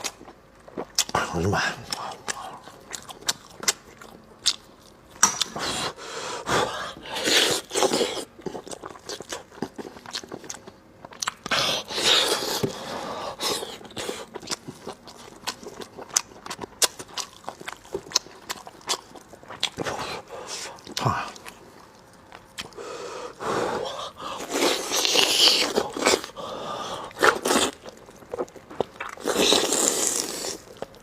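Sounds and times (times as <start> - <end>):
close chewing and mouth smacks: 0.0 - 5.6, 7.1 - 22.8, 24.0 - 31.0.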